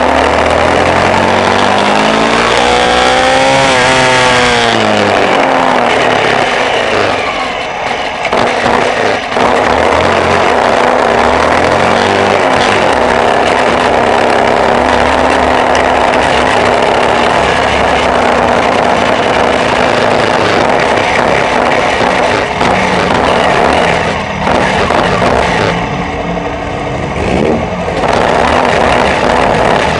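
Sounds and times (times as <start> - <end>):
off-road vehicle engine: 0.0 - 29.9
road and wind noise: 0.0 - 29.9.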